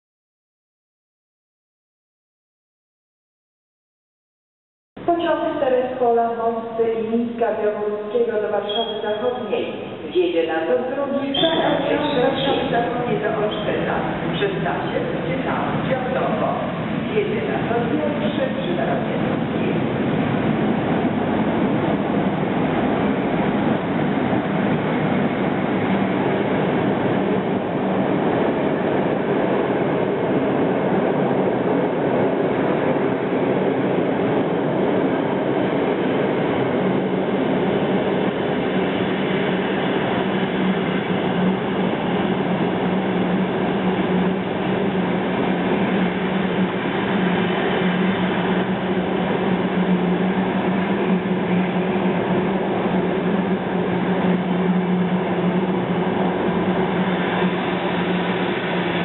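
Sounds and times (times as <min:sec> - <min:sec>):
train coaches rumbling past: 0:07.6 - 0:59.0.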